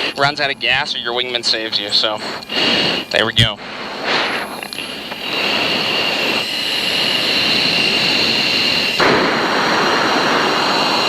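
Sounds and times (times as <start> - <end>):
jet engine and airflow rushing: 0.0 - 11.0
thin high whine: 0.0 - 11.0.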